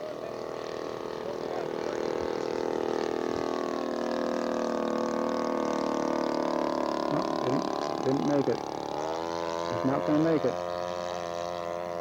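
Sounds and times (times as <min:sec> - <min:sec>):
model airplane engine running: 0:00.0 - 0:12.0.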